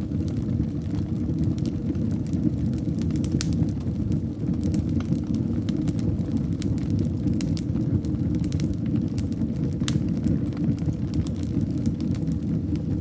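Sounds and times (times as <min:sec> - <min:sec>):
fire crackling and popping: 0:00.0 - 0:13.0
fire rumbling in fireplace: 0:00.0 - 0:13.0.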